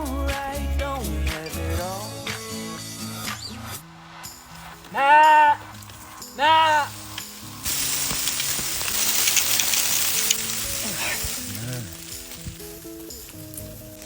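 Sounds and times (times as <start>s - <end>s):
background music: 0.0s - 14.0s
sizzling hiss: 0.1s - 14.0s.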